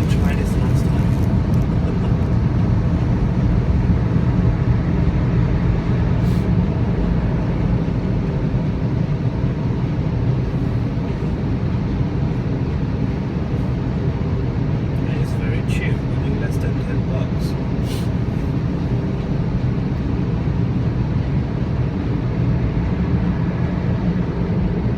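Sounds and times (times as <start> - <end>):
car wash machinery rumbling: 0.0 - 20.9.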